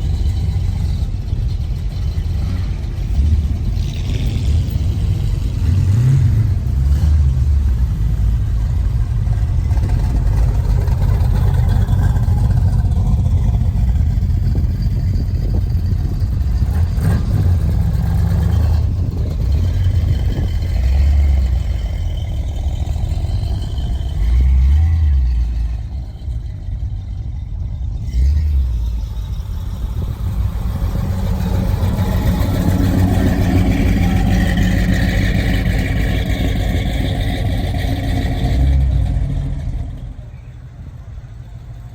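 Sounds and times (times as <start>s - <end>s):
car engine revving: 0.0s - 41.4s.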